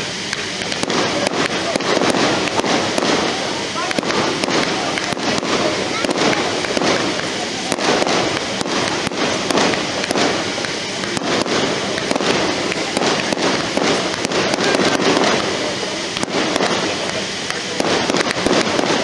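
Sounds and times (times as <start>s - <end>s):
fireworks crackle: 0.0s - 19.0s
fireworks cracks and bangs: 0.0s - 19.0s.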